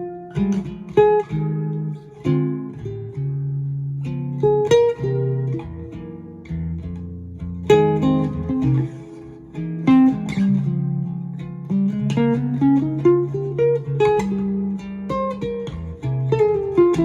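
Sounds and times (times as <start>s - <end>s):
nylon-string guitar jazz solo: 0.0s - 17.0s.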